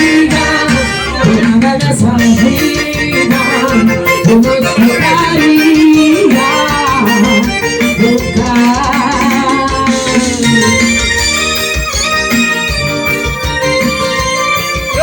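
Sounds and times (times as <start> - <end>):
instrumental song with steady beat: 0.0 - 15.0.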